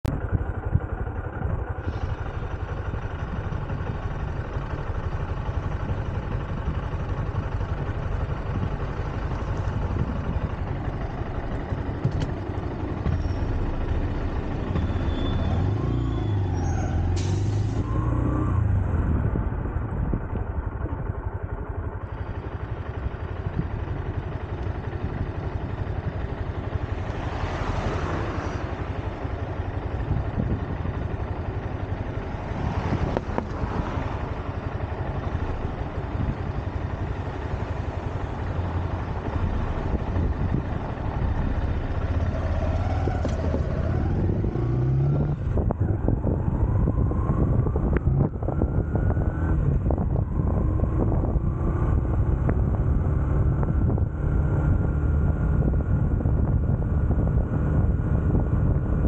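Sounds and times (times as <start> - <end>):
motorcycle engine running: 0.0 - 16.7, 18.0 - 59.0.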